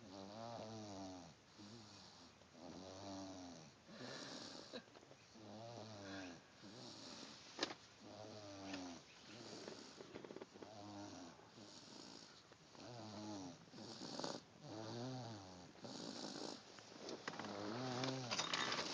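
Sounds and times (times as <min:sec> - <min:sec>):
slow regular snoring: 0:00.0 - 0:18.9.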